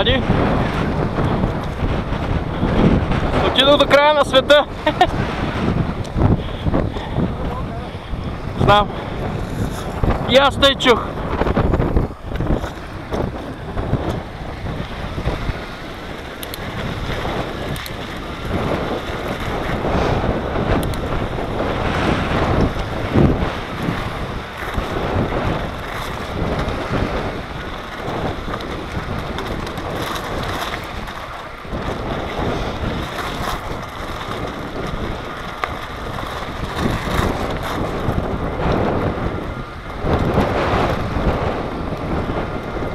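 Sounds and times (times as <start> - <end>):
bicycle tyres crunching over shingle: 0.0 - 42.9
wind buffeting microphone: 0.0 - 42.9.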